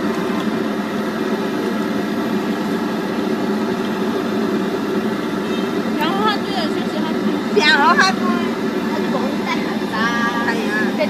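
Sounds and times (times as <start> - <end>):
wok burner roaring: 0.0 - 11.0.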